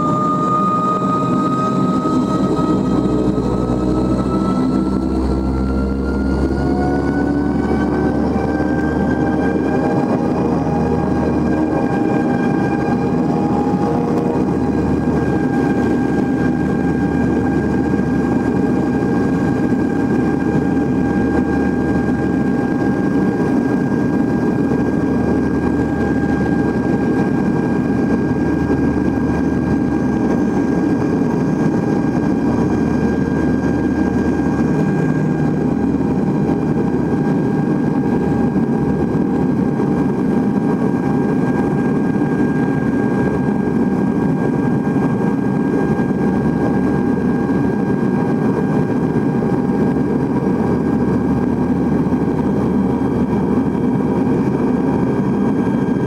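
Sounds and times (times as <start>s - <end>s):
low runway rumble: 0.0s - 56.0s
turboprop engine roar and whine: 0.0s - 56.0s.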